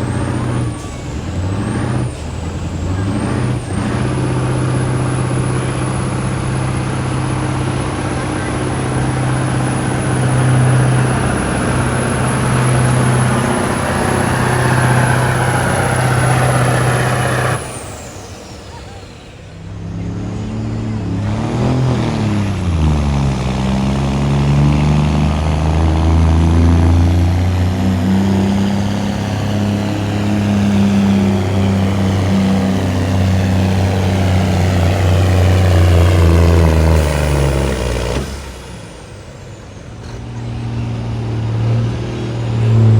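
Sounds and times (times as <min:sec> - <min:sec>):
engine running hard with high whine: 0:00.0 - 0:42.9.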